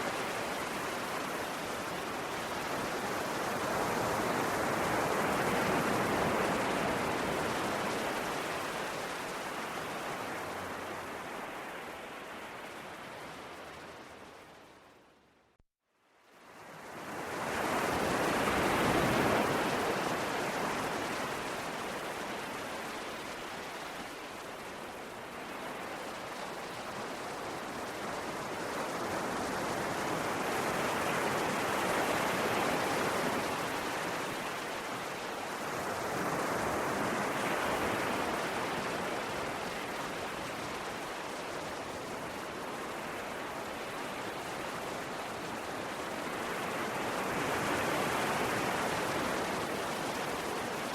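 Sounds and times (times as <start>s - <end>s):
ocean waves on shore: 0.0s - 15.2s, 16.3s - 50.9s.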